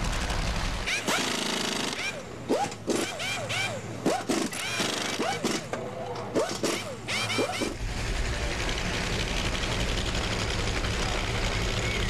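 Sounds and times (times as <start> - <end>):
steady engine noise: 0.0 - 12.0.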